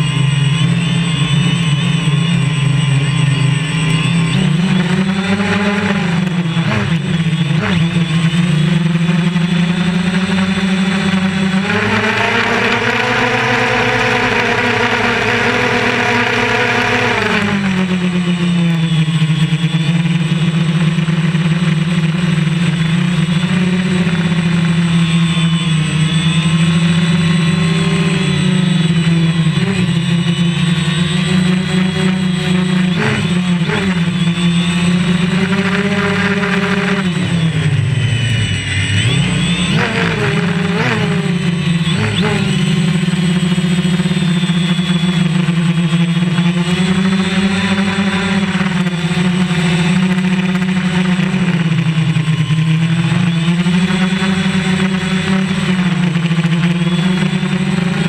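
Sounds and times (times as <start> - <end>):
drone propellers buzzing: 0.0 - 58.0.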